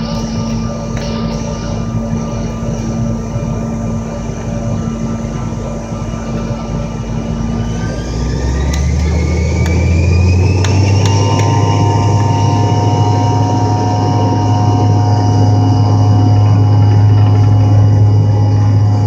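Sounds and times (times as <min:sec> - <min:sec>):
jet engines running: 0:00.0 - 0:19.0
low rumble: 0:00.0 - 0:19.0
rising engine whine: 0:00.0 - 0:19.0.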